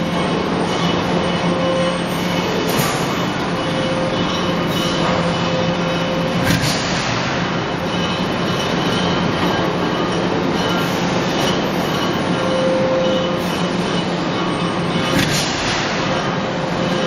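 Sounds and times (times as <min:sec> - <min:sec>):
constant machine hum: 0:00.0 - 0:17.0
rollers feeding steel sheet: 0:00.0 - 0:17.0
sharp metal clank: 0:00.8 - 0:17.0.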